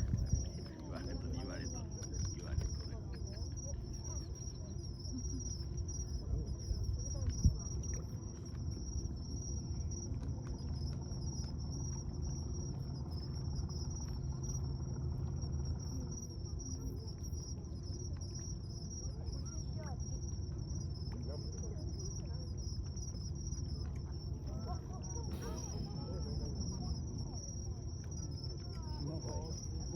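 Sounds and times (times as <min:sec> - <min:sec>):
insects chirring: 0:00.0 - 0:29.9
low background rumble: 0:00.0 - 0:29.9.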